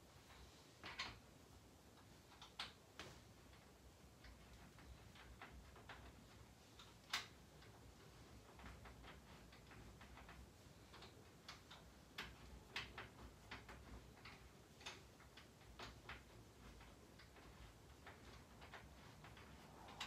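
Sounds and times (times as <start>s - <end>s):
crib hardware clicking: 0.8s - 1.3s, 1.9s - 20.0s.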